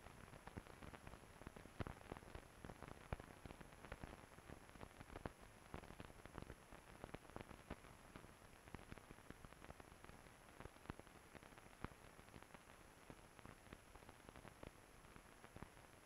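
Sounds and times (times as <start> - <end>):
film surface hiss and crackles: 0.0 - 16.0.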